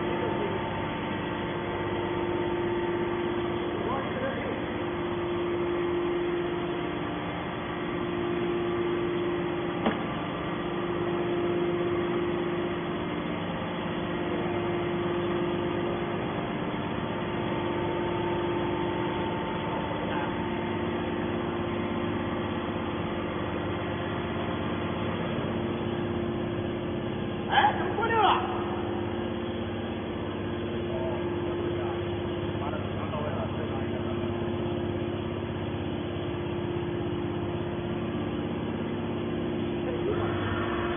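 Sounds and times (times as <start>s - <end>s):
hydraulic machine hum: 0.0s - 40.9s.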